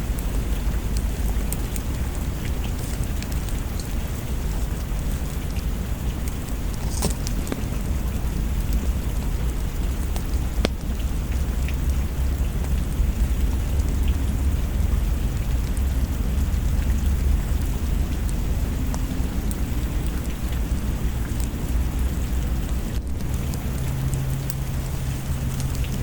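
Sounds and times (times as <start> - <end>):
wood fire crackling and popping: 0.0 - 21.7, 22.4 - 26.0
steady rain: 0.0 - 26.0.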